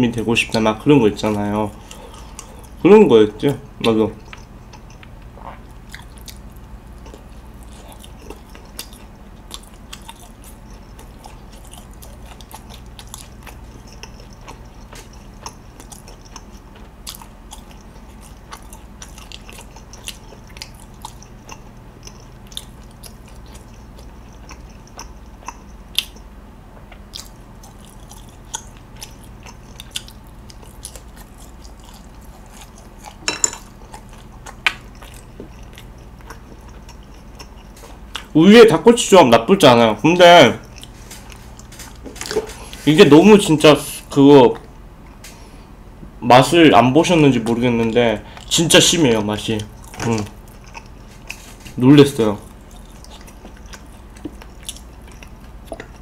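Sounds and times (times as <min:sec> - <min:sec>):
biting and chewing: 0:03.8 - 0:39.0, 0:40.0 - 0:43.6, 0:47.4 - 0:56.0.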